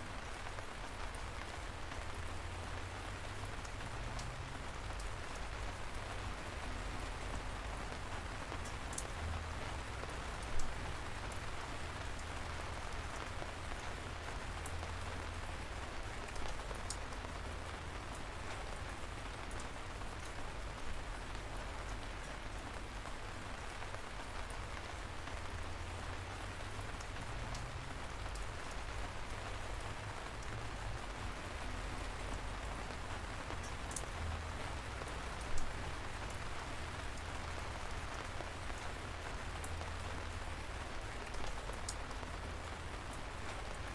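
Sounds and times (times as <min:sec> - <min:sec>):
light rain pattering: 0:00.0 - 0:43.9.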